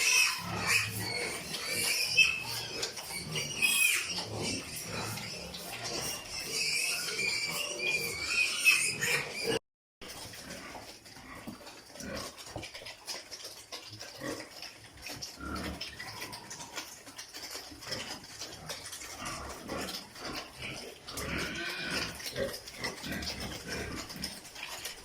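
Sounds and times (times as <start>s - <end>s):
pigs grunting: 0.0s - 25.0s.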